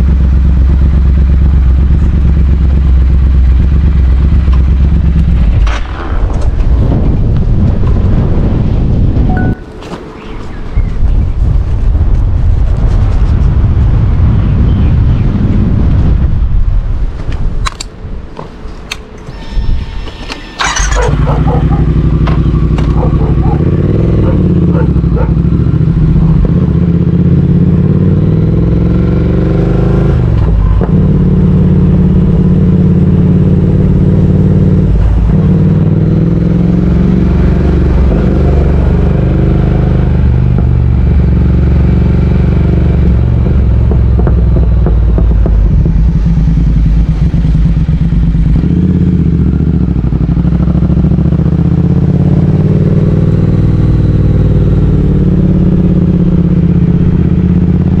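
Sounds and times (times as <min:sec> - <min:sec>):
motorcycle engine running: 0:00.0 - 0:17.2, 0:20.6 - 0:58.0.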